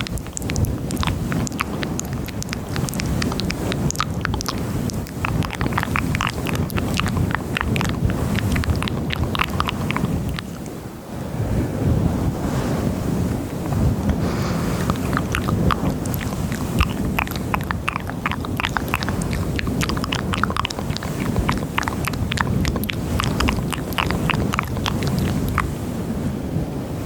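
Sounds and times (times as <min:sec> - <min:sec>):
wet mouth clicks and smacks: 0:00.0 - 0:10.8, 0:13.6 - 0:25.7.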